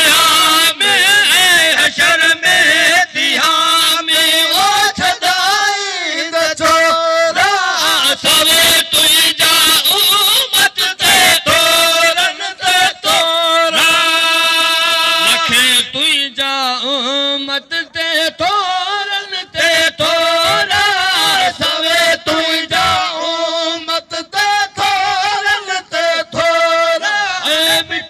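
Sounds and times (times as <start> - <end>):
man chanting unaccompanied: 0.0 - 28.0.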